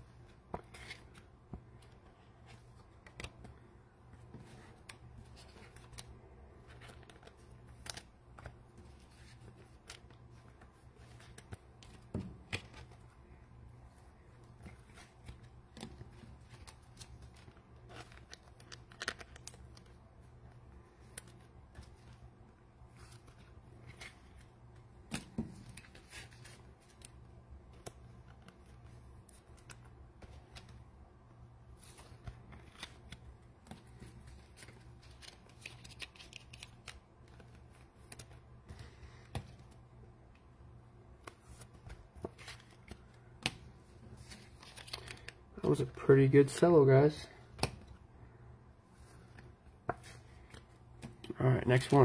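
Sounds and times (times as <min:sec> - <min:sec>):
cards being sorted and stacked: 0:00.2 - 0:30.9, 0:31.7 - 0:48.0, 0:49.0 - 0:52.0.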